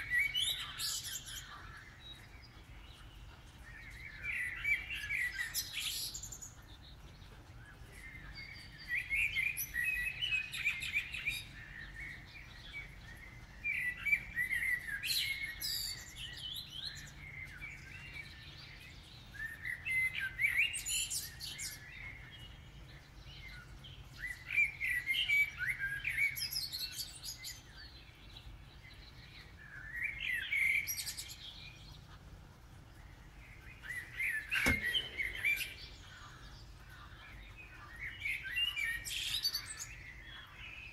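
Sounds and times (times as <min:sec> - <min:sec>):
blackbird singing: 0:00.0 - 0:40.9.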